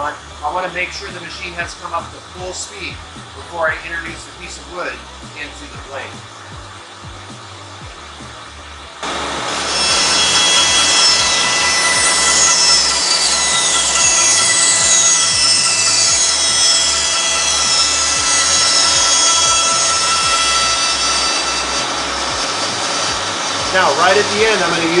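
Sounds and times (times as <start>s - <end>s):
band saw cutting wood: 0.0s - 6.5s, 9.0s - 25.0s
band saw motor running: 0.0s - 25.0s.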